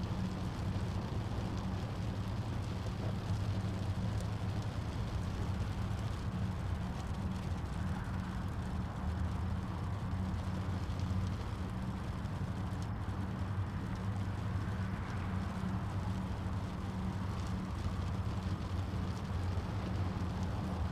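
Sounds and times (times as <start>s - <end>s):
soft hiss: 0.0s - 20.9s
steady low rumble: 0.0s - 20.9s.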